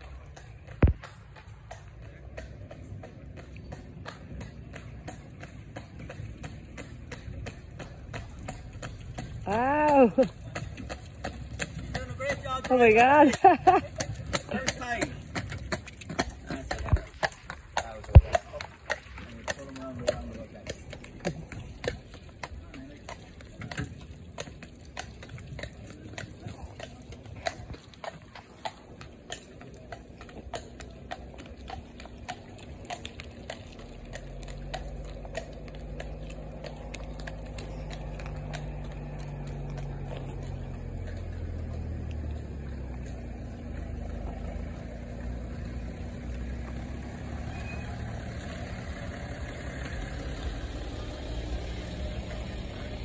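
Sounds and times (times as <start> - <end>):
car engine and tyres on wet road: 0.0 - 53.0
horse hooves on wet tarmac: 0.0 - 53.0.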